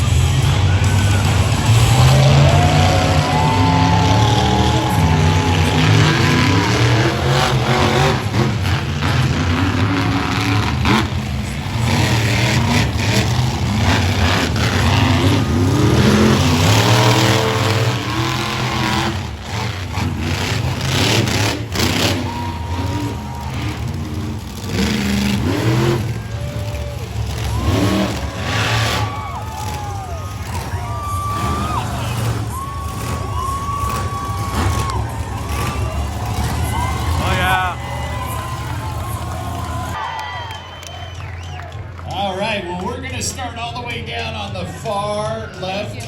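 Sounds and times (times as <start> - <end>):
monster truck engines revving: 0.0 - 46.0.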